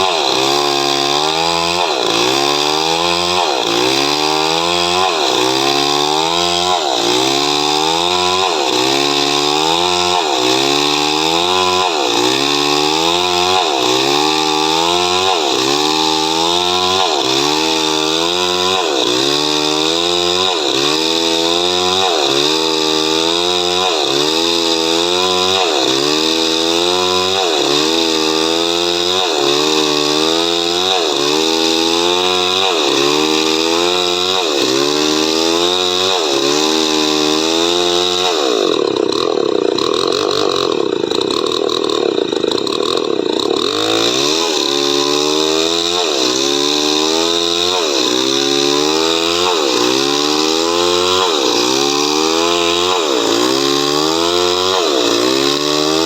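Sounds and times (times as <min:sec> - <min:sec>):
chainsaw sawing wood: 0:00.0 - 0:56.0.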